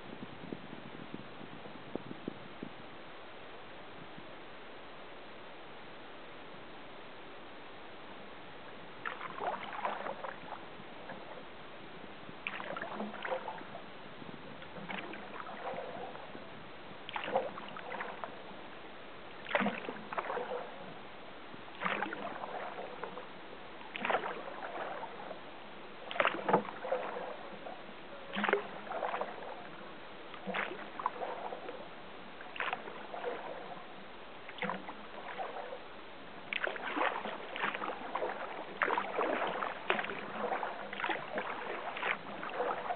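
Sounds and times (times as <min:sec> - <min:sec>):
kayak paddle splashing: 0:08.3 - 0:42.9.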